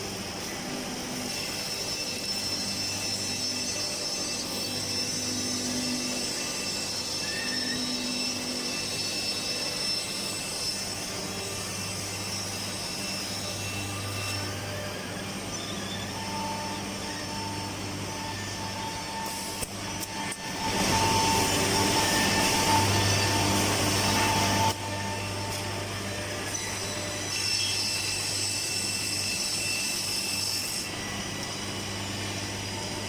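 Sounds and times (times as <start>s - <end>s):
woodworking machinery running: 0.0s - 33.0s.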